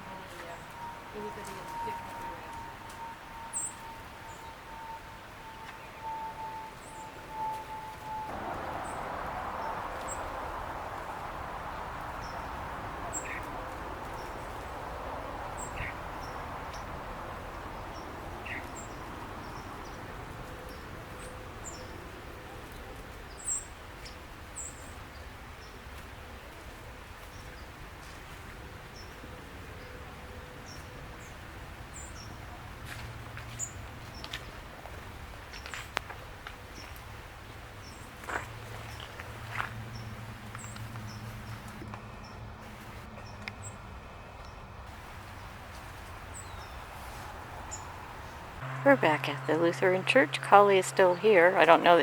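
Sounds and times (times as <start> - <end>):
songbirds chirping: 0.0 - 34.8, 35.5 - 52.0
outdoor background noise: 0.0 - 52.0.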